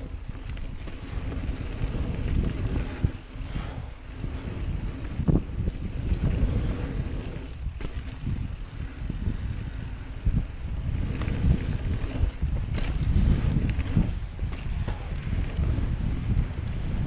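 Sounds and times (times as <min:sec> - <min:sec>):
bike knocks and rattles: 0:00.0 - 0:17.0
low rumble of bike on trail: 0:00.0 - 0:17.0
wind buffeting microphone: 0:00.0 - 0:17.0.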